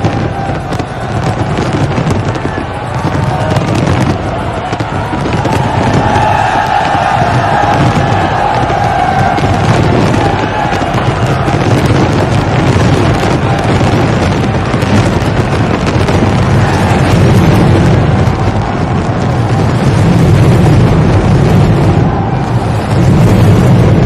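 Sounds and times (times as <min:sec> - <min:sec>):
fireworks booming and crackling: 0:00.0 - 0:24.0.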